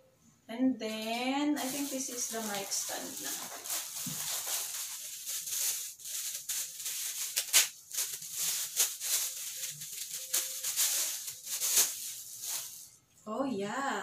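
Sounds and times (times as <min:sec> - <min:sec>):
plastic bag crinkling: 0:00.9 - 0:13.0.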